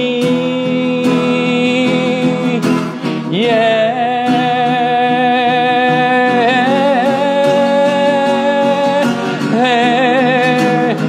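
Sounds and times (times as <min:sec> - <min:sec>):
instrumental accompaniment: 0:00.0 - 0:11.0
person singing wordless notes: 0:00.0 - 0:11.0.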